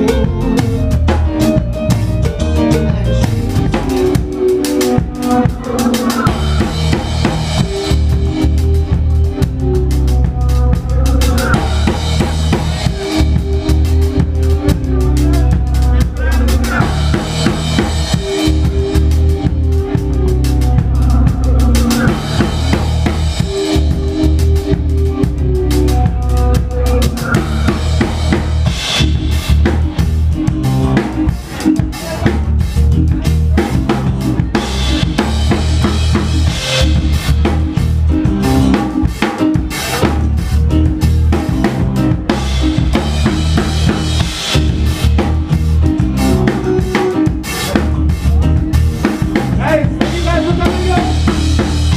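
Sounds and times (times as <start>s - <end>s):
drum kit beat: 0.0s - 51.9s
live band playing: 0.0s - 51.9s.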